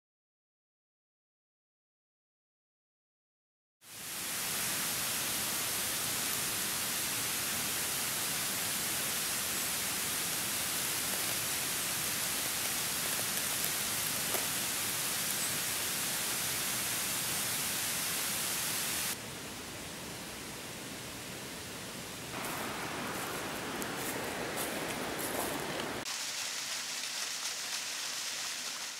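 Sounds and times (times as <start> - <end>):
steady rushing hiss: 3.8 - 28.9.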